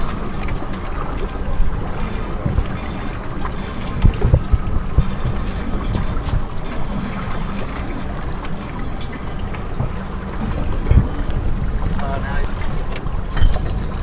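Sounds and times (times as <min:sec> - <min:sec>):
water sloshing against boat: 0:00.0 - 0:14.0
wind rumble on microphone: 0:00.0 - 0:14.0.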